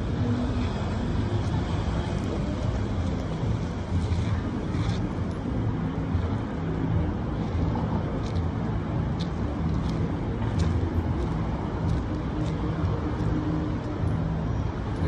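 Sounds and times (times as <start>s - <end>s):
low rumble of cars and engines: 0.0s - 15.0s.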